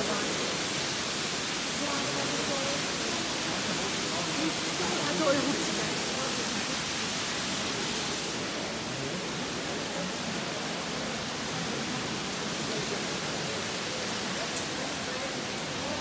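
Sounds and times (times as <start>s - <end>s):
rushing water current hiss: 0.0s - 16.0s.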